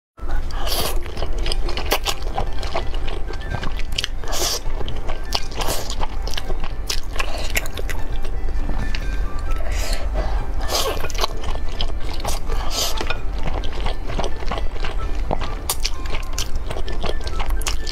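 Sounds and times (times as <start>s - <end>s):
steady low hum: 0.2s - 17.7s
wet chewing and smacking: 0.4s - 17.9s
slurping noodles: 0.5s - 8.0s, 8.9s - 17.9s
mouth sucking: 0.5s - 17.9s.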